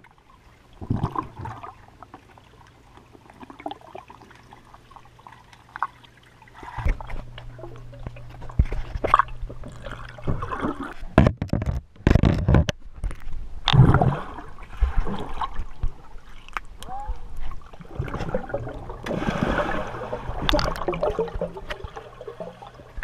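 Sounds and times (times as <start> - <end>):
low steady hum: 0.0 - 23.0
underwater gurgling and sloshing: 0.0 - 23.0.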